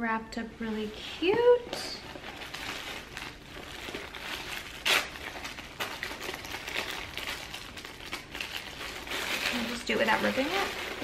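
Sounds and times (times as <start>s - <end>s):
tissue paper crinkling: 0.7s - 11.0s.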